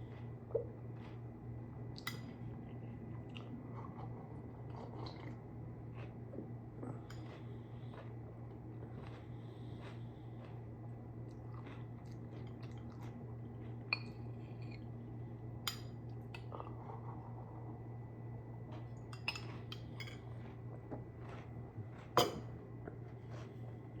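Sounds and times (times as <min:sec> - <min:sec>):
quiet chewing: 0:00.0 - 0:15.3, 0:18.5 - 0:24.0
steady low hum: 0:00.0 - 0:24.0.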